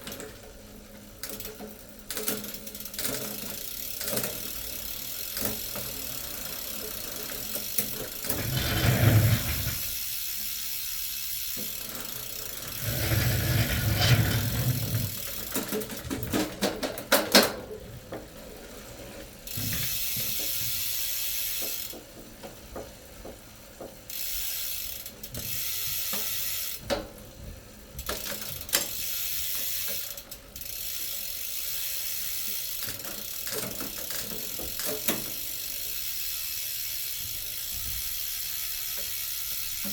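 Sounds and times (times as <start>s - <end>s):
fast ratchet clicking: 1.2s - 16.5s, 19.5s - 23.0s, 23.8s - 26.9s, 28.0s - 39.9s.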